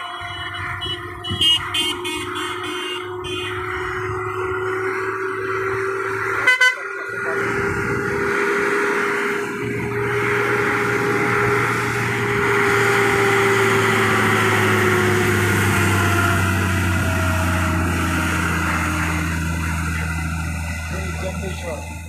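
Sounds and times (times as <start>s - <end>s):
diesel truck engine drone: 0.0s - 22.0s
engine whine: 0.0s - 22.0s.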